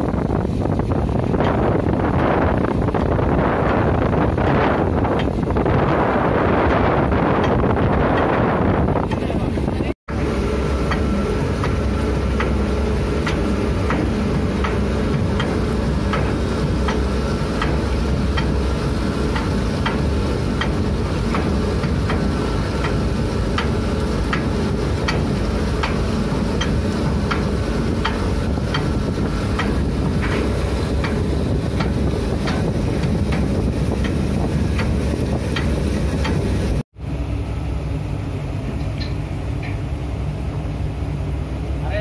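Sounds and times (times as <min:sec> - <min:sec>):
anchor windlass rumble: 0:00.0 - 0:42.0.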